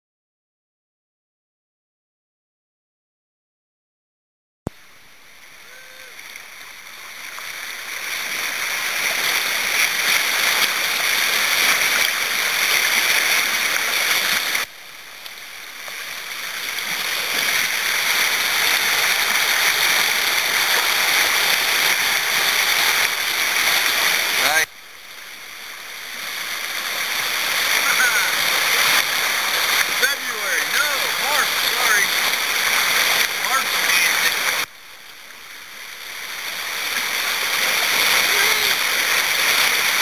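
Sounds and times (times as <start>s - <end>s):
rushing whitewater: 4.8s - 40.0s.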